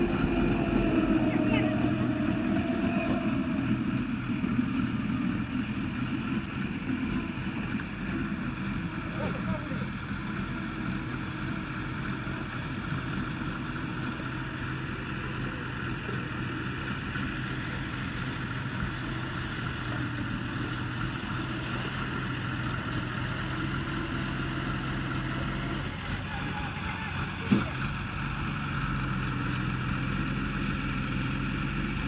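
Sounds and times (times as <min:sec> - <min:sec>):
large engine humming and rumbling: 0:00.0 - 0:32.0.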